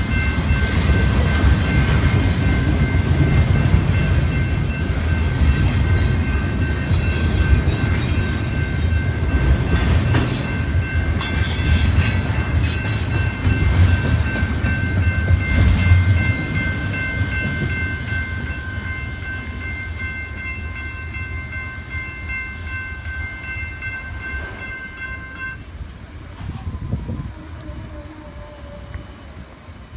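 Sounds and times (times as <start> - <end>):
steady high ringing tone: 0.0 - 26.2
train rumbling past: 0.0 - 29.9.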